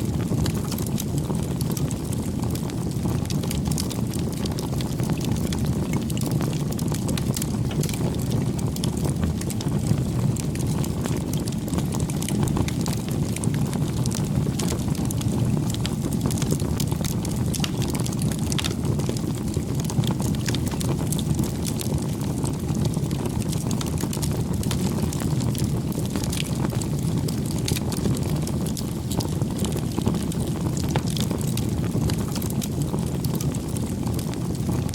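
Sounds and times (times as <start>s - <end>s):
burning wood crackling: 0.0s - 34.9s
campfire flames rumbling: 0.0s - 34.9s.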